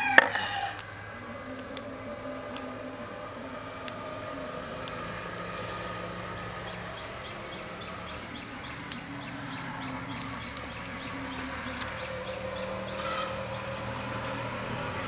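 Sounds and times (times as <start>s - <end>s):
faint bird chirps: 0.0s - 14.5s
steady low hum: 0.0s - 15.0s.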